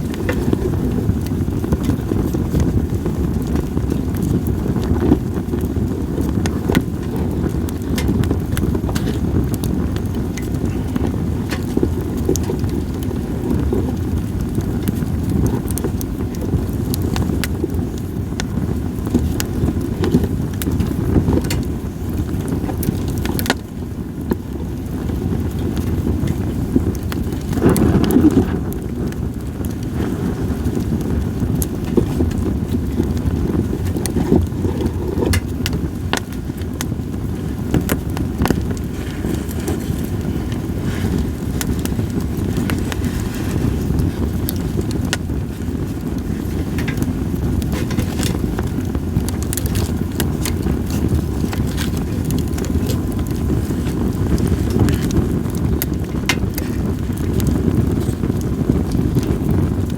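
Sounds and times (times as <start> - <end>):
wind on microphone: 0.0 - 59.9
wood fire crackling and popping: 0.0 - 59.9.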